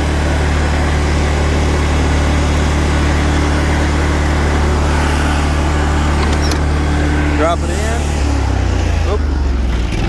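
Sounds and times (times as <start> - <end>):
riding mower engine running: 0.0 - 10.0.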